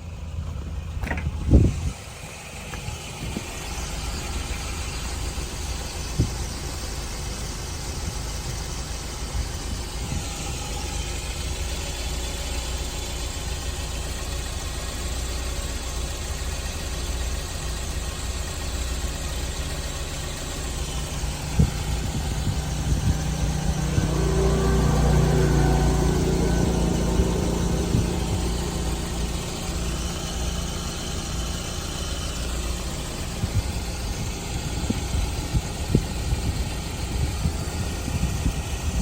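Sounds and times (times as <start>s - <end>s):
van engine idling: 0.0s - 39.0s.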